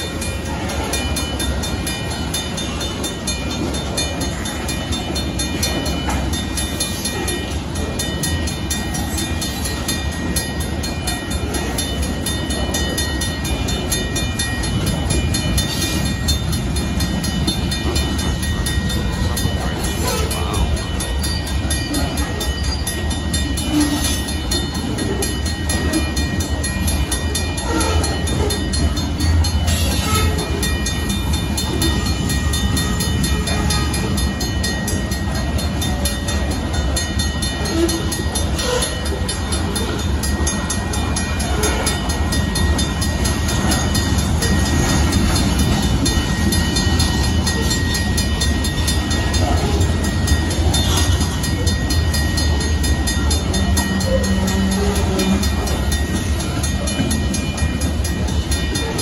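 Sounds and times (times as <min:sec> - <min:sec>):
crossing warning bell ringing: 0:00.0 - 0:59.0
freight train wheels rumbling: 0:00.0 - 0:59.0.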